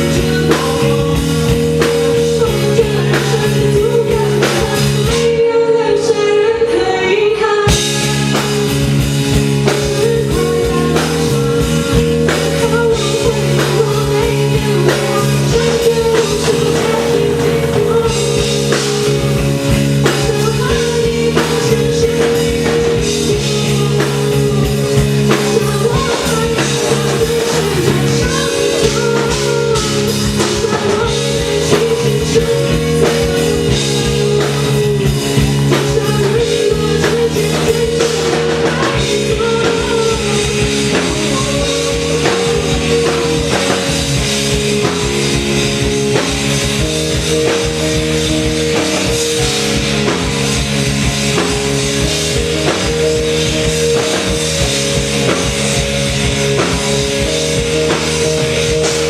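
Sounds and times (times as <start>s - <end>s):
drum kit beat: 0.0s - 5.7s, 7.7s - 59.0s
bass guitar: 0.0s - 59.0s
sustained keyboard chords: 0.0s - 59.0s.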